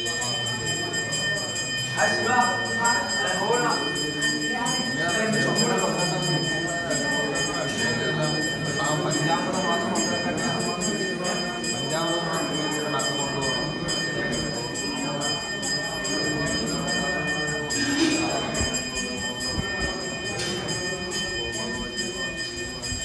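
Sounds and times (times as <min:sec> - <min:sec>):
hand bell ringing: 0:00.0 - 0:23.0
priests chanting: 0:00.0 - 0:23.0.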